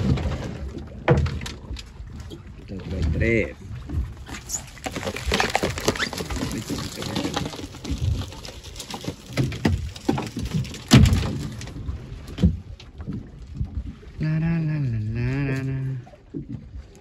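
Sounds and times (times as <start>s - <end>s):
water splashing and dripping: 0.0s - 17.0s.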